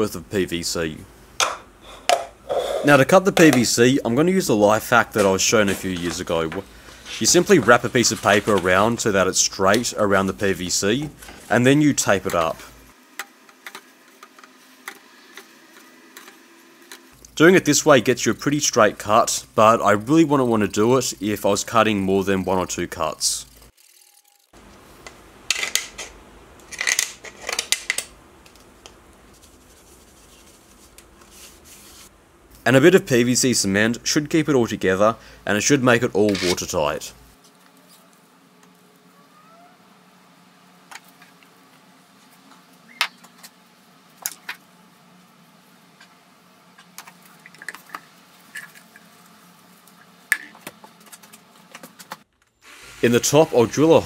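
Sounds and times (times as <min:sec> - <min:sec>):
faint steady hum: 0:00.0 - 0:23.7, 0:24.5 - 0:54.0.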